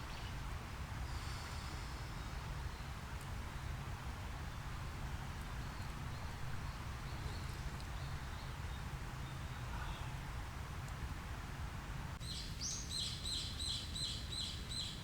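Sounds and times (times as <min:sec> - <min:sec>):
forest background noise: 0:00.0 - 0:15.0.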